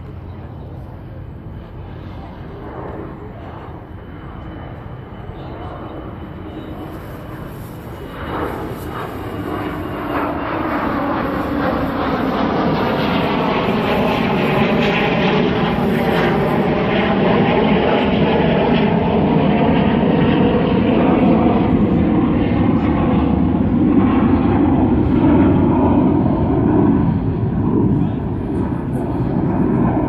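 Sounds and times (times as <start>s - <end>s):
airplane engine drone overhead: 0.0s - 30.0s.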